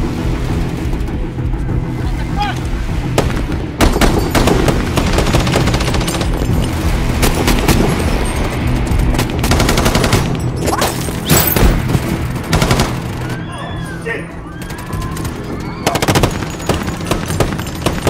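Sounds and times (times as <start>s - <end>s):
film score low notes: 0.0s - 18.0s.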